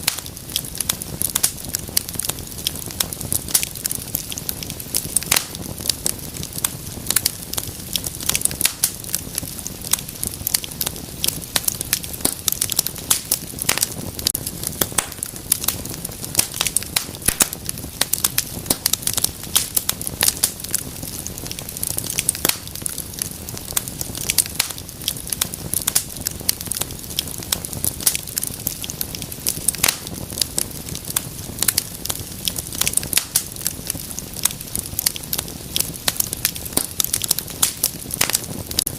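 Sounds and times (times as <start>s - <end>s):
sharp pops and snaps: 0.0s - 38.9s
wood fire crackling: 0.0s - 38.9s.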